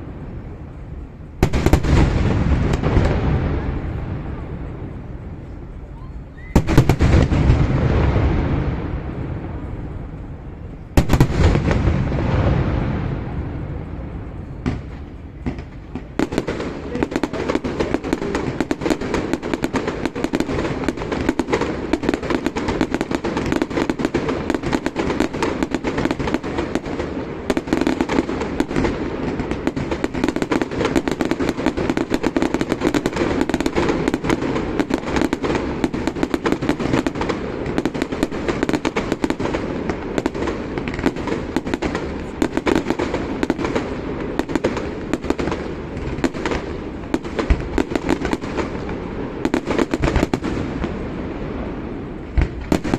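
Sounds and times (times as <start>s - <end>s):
fireworks crackling: 0.0s - 52.9s.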